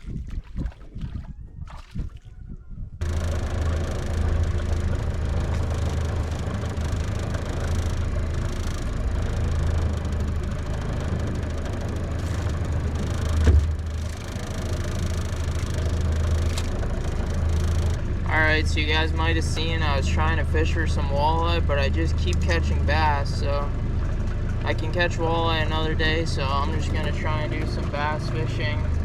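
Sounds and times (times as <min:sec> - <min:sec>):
outboard motor running: 0:00.0 - 0:02.3, 0:03.0 - 0:29.0.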